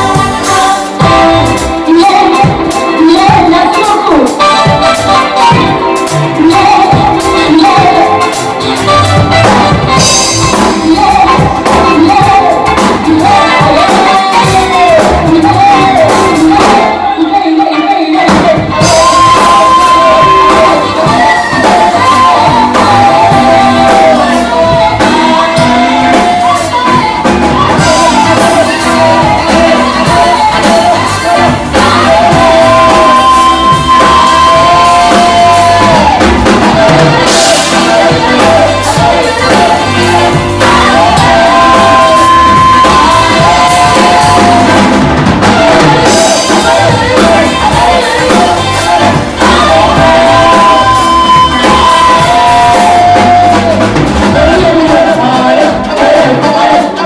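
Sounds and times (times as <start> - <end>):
band playing: 0.0 - 57.0
women singing: 0.0 - 57.0.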